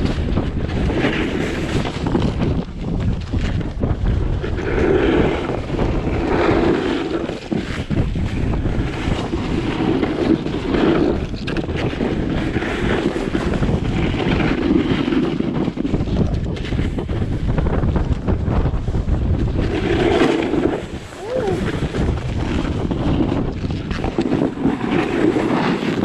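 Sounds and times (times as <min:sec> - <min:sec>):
snowboards scraping on snow: 0:00.0 - 0:26.0
wind buffeting microphone: 0:00.0 - 0:26.0.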